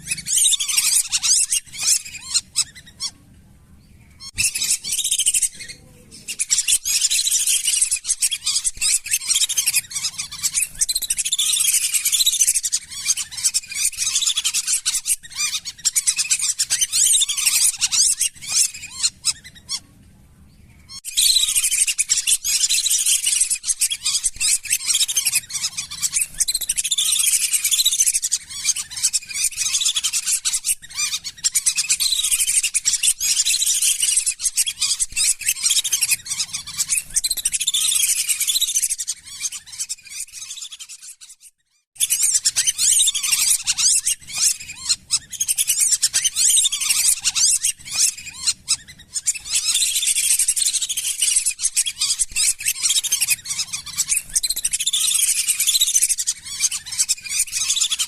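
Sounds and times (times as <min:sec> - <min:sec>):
ducks whistling calls: 0:00.0 - 0:03.3, 0:04.1 - 0:19.9, 0:20.9 - 0:41.4, 0:42.0 - 0:58.0.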